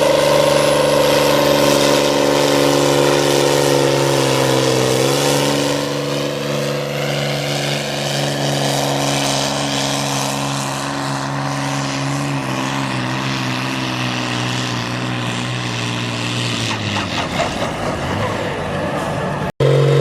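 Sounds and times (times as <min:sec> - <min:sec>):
tractor engine droning at high revs: 0:00.0 - 0:20.0.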